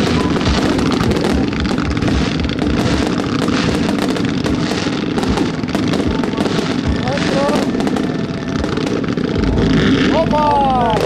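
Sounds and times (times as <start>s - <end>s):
fireworks bangs and crackle: 0.0s - 11.0s.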